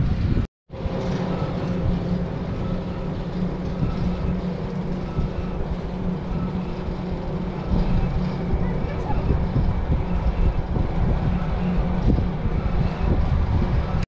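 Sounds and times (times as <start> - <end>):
aerial tramway cables humming: 0.0 - 14.0.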